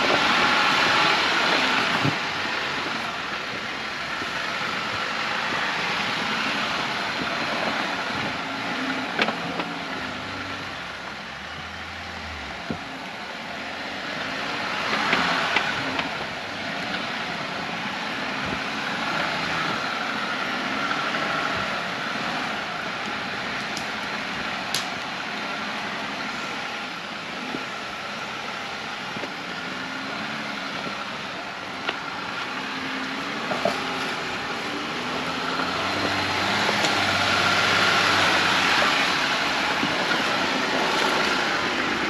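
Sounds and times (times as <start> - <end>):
off-road vehicle engine and tyres: 0.0 - 42.0.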